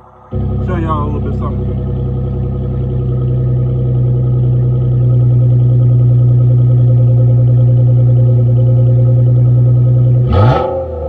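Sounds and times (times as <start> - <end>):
car engine deep exhaust drone: 0.0 - 11.0.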